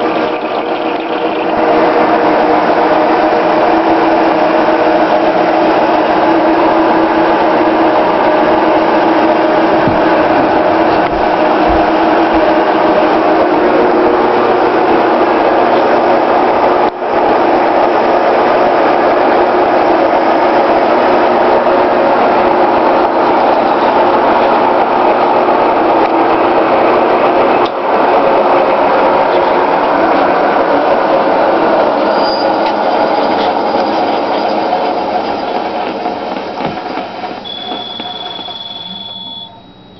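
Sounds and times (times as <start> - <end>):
lathe running: 0.0 - 39.9.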